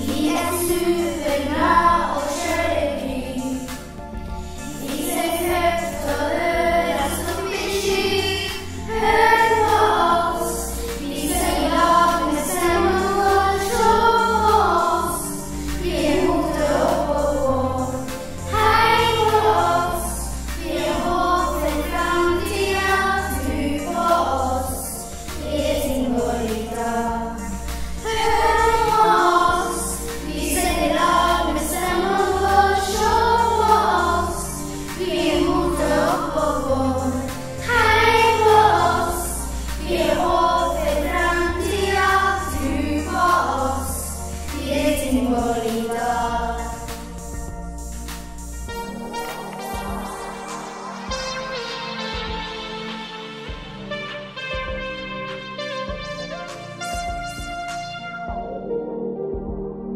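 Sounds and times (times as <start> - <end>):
choir singing: 0.0 - 47.5, 48.6 - 54.0
bass line: 0.0 - 58.6
instrumental backing: 0.0 - 59.9.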